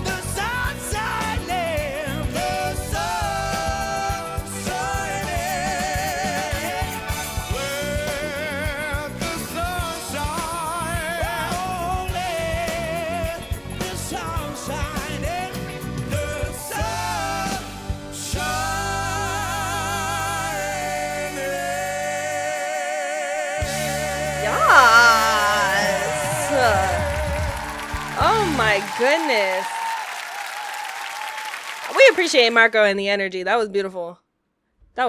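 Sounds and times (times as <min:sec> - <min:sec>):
full band with drum beat: 0:00.0 - 0:21.0, 0:23.6 - 0:32.6
singer with wide vibrato: 0:00.0 - 0:29.8.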